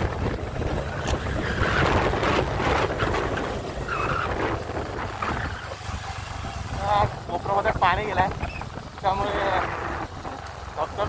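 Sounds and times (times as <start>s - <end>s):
motorcycle engine drone: 0.0s - 11.0s
wind buffeting microphone: 0.0s - 11.0s.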